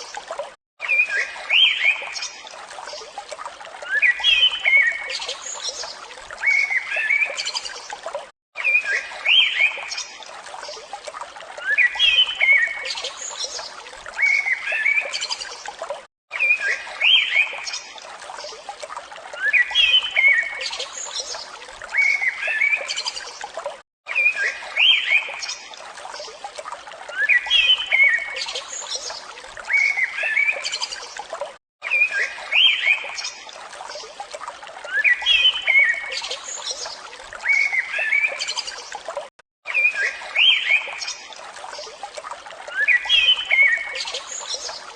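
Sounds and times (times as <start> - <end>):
trickle of running water: 0.0 - 44.9.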